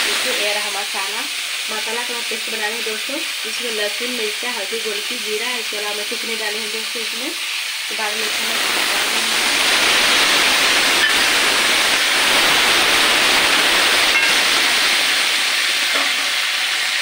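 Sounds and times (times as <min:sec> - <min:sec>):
spice paste sizzling in oil: 0:00.0 - 0:17.0.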